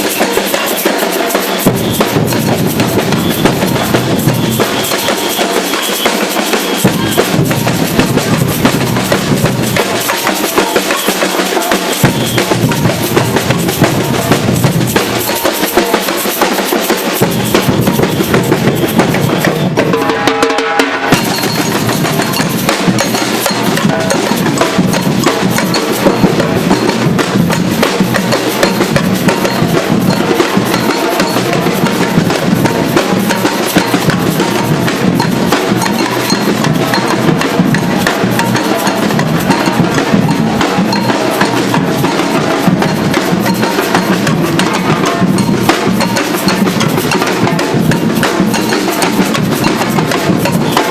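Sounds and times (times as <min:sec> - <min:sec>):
samba percussion group drumming: 0:00.0 - 0:50.9.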